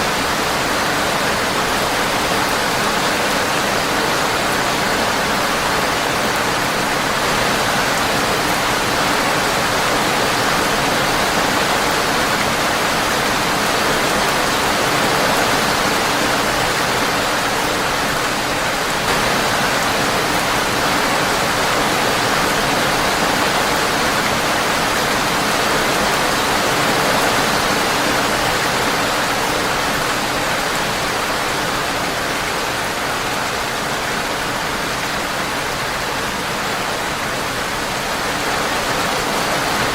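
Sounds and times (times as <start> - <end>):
rain on a windowpane: 0.0 - 39.9.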